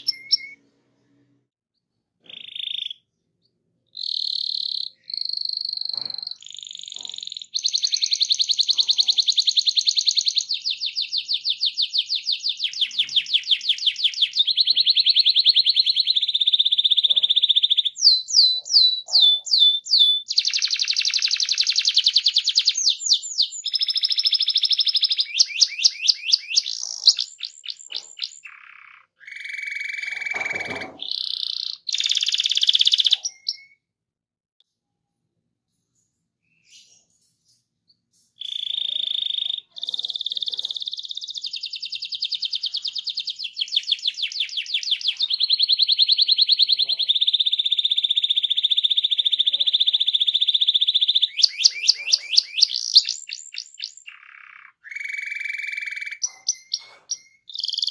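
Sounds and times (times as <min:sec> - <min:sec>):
canary singing trills: 0:00.0 - 0:00.7, 0:02.2 - 0:33.8, 0:36.4 - 0:57.9.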